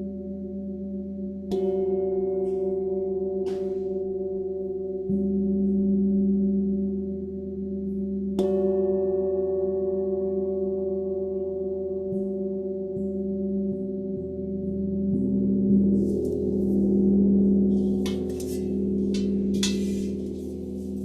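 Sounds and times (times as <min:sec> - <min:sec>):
gong and sound bowls ringing: 0:00.2 - 0:21.0.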